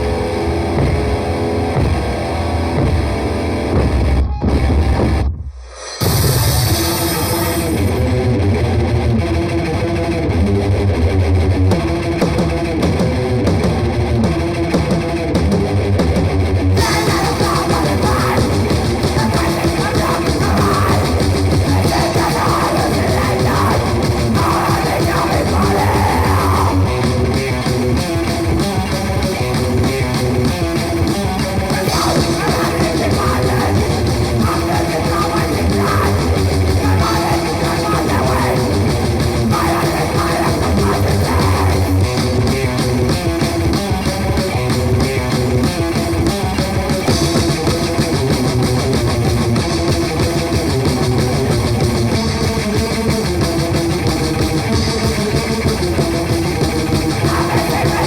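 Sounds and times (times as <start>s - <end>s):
bass and drums: 0.0s - 58.0s
distorted electric guitar: 0.0s - 58.0s.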